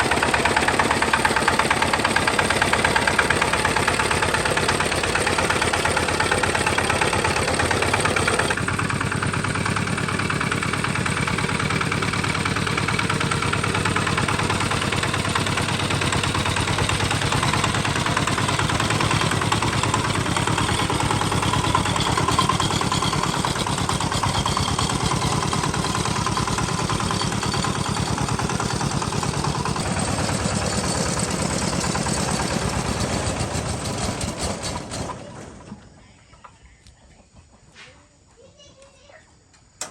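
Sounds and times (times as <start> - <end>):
tractor engine idling: 0.0 - 37.3.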